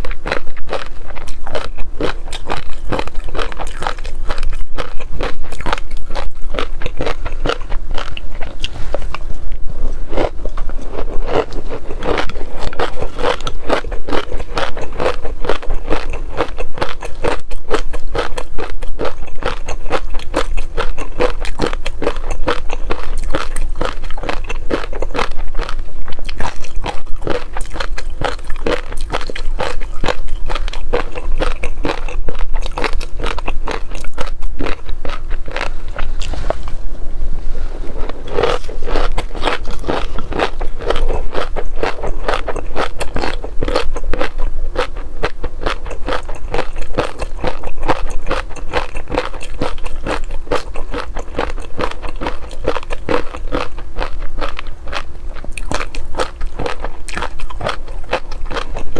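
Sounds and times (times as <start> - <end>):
crunchy chewing: 0.0 - 36.8, 37.6 - 58.9.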